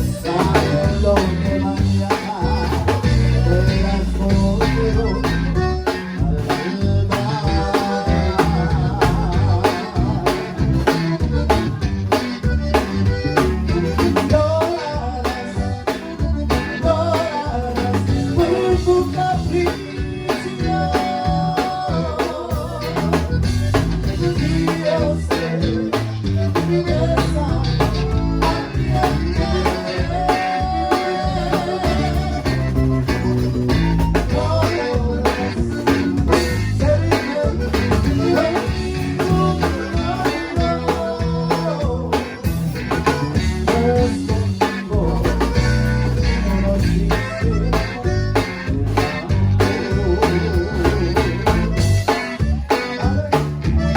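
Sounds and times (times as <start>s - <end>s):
accordion melody: 0.0s - 53.9s
bajo sexto: 0.0s - 53.9s
bass: 0.0s - 53.9s
drums dance beat: 0.0s - 53.9s.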